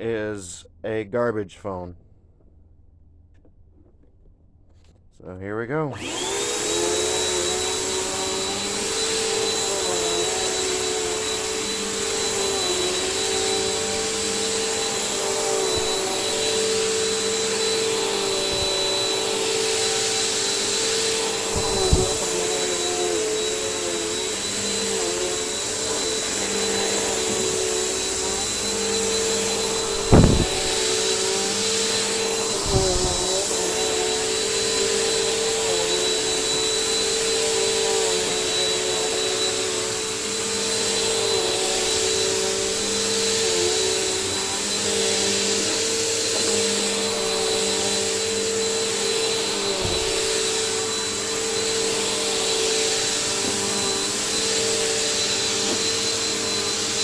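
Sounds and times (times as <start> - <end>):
vacuum cleaner running: 5.9 - 57.0.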